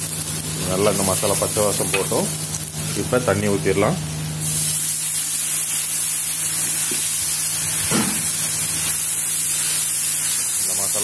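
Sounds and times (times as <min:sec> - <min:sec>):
water hissing in hot oil: 0:00.0 - 0:11.0.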